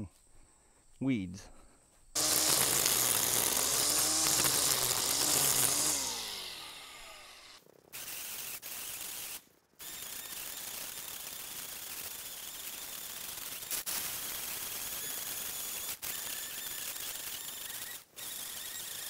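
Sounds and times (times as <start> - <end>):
string trimmer cutting weeds: 2.2 - 19.0.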